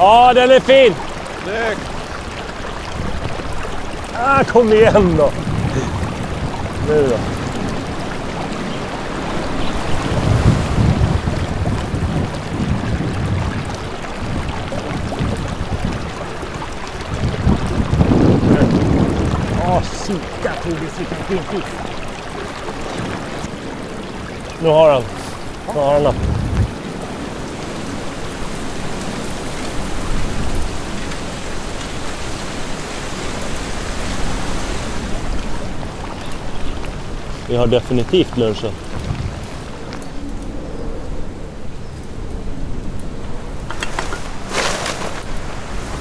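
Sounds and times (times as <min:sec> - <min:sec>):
river water rushing: 0:00.0 - 0:40.4, 0:43.2 - 0:46.0
wind buffeting microphone: 0:00.0 - 0:46.0.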